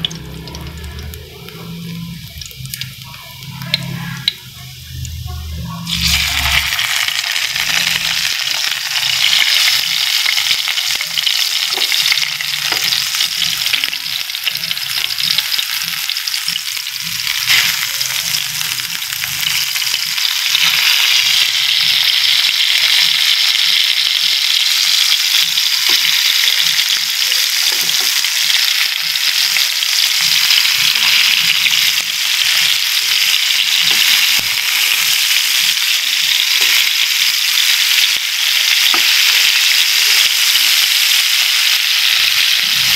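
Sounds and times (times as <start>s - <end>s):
food sizzling and crackling in oil: 0.0s - 42.9s.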